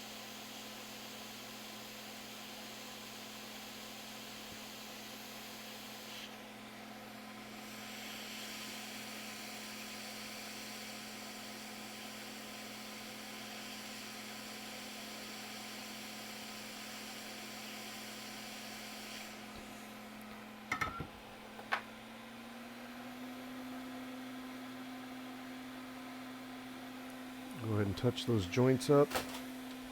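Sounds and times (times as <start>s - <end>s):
bench equipment hiss and hum: 0.0s - 6.6s, 7.4s - 22.1s, 23.8s - 29.9s.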